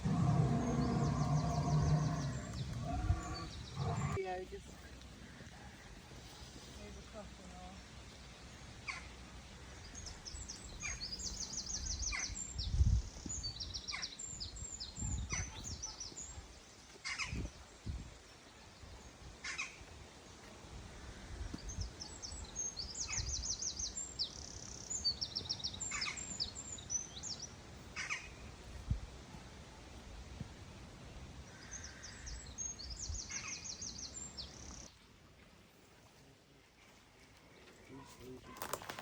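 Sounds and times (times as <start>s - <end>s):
songbird singing: 0.0s - 20.5s, 21.4s - 35.6s.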